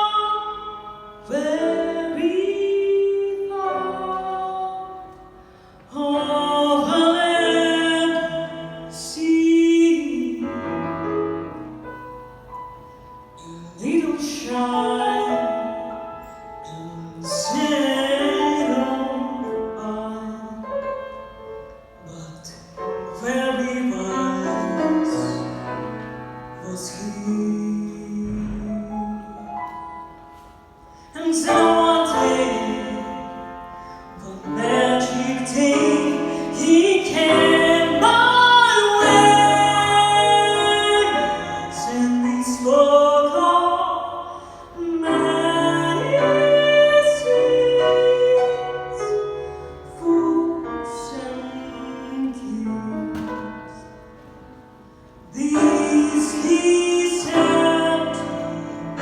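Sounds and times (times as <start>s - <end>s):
woman singing a slow song: 0.0s - 11.6s, 13.3s - 54.0s, 55.2s - 59.0s.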